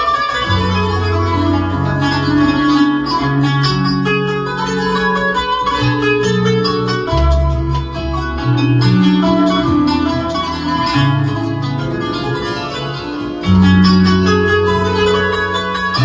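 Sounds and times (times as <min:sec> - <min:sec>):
plucked-string keyboard melody: 0:00.0 - 0:16.0
long held bass notes: 0:00.4 - 0:16.0.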